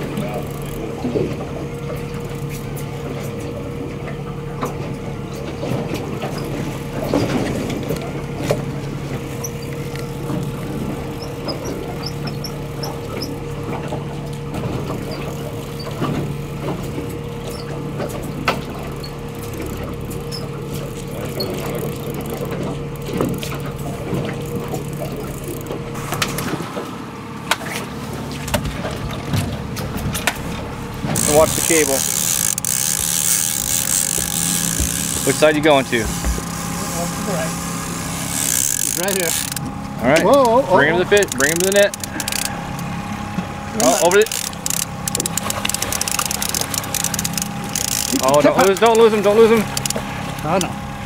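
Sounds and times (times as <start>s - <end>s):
knocks and clicks of gear: 0.0s - 26.8s, 27.4s - 36.7s, 38.3s - 50.8s
outboard motor running: 0.0s - 51.0s.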